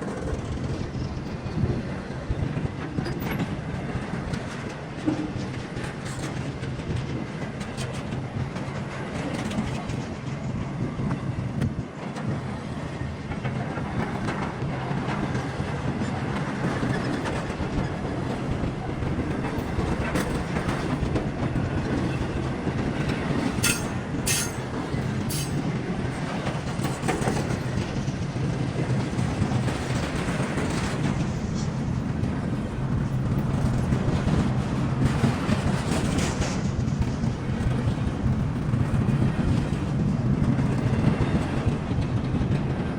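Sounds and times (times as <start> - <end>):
train cars clattering on rails: 0.0 - 42.9.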